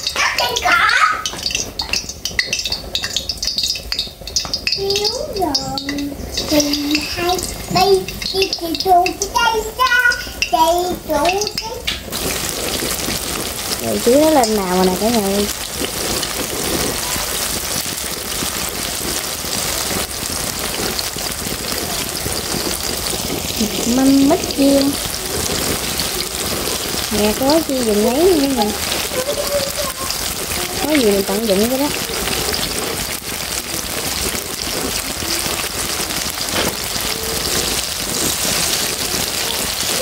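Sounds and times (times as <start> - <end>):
deep-frying sizzle in oil: 0.0 - 40.0.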